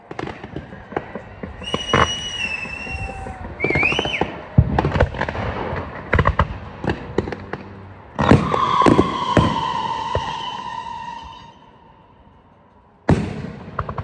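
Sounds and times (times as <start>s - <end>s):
firework whistles: 0.0s - 6.4s, 8.2s - 13.2s
fireworks bangs and crackling: 0.0s - 11.7s, 13.0s - 14.0s.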